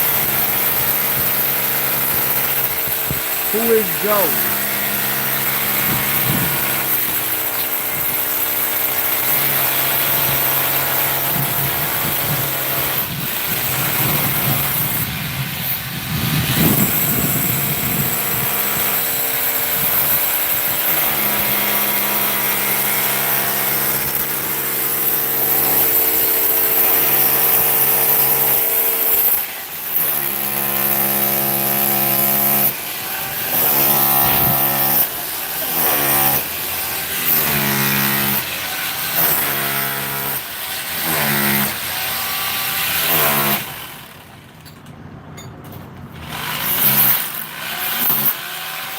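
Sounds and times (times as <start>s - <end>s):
power tool motor humming: 0.0s - 44.2s.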